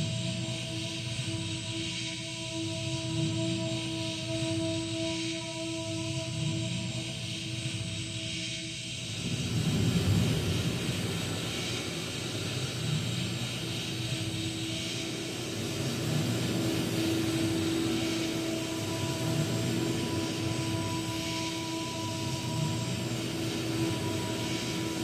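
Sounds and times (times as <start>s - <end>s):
breathy vocal drone: 0.0s - 25.0s.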